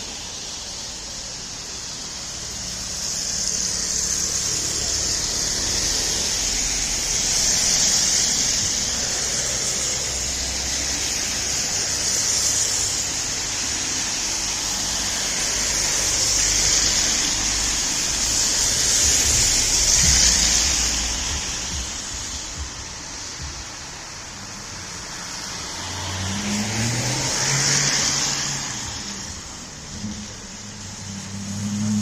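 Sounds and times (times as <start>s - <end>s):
low traffic rumble: 0.0s - 32.0s
tyres hissing on wet road: 0.0s - 32.0s.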